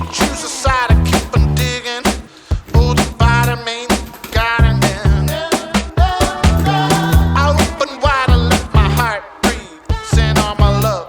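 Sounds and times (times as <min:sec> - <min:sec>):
song with drums bass and vocals: 0:00.0 - 0:11.0.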